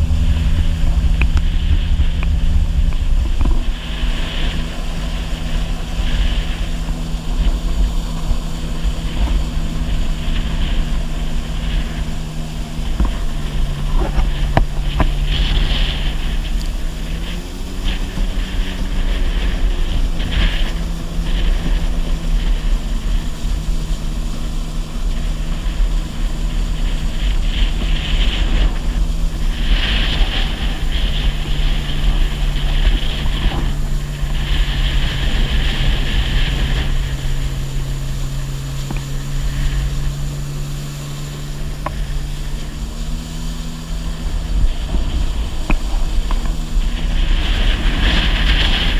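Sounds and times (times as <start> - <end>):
personal watercraft engine running: 0.0 - 48.9
wind buffeting microphone: 0.0 - 48.9.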